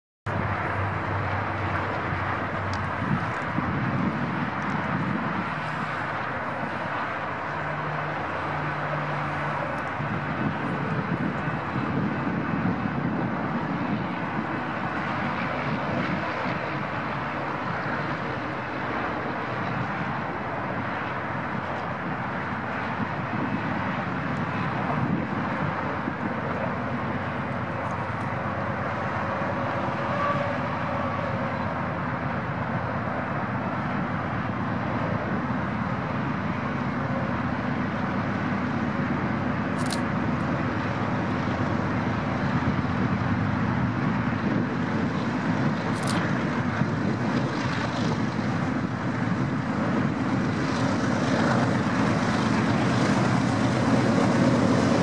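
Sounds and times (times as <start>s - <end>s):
diesel locomotives running: 0.3s - 55.0s.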